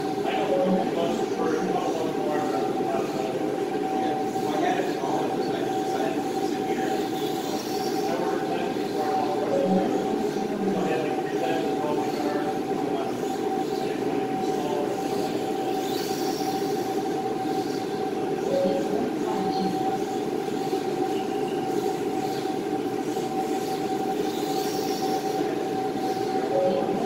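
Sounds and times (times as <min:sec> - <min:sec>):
mechanical rumbling hum: 0:00.0 - 0:27.0.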